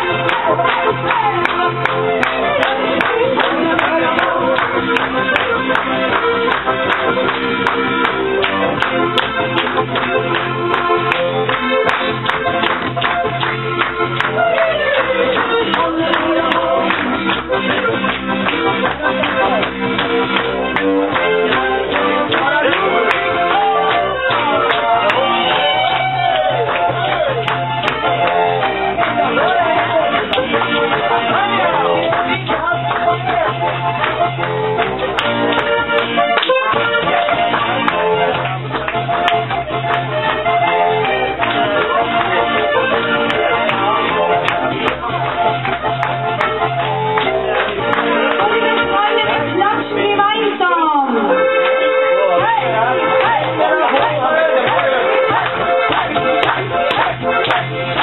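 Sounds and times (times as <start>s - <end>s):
acoustic guitar: 0.0s - 58.0s
audience clapping along: 0.0s - 58.0s
bass line: 0.0s - 58.0s
live folk-pop band music: 0.0s - 58.0s.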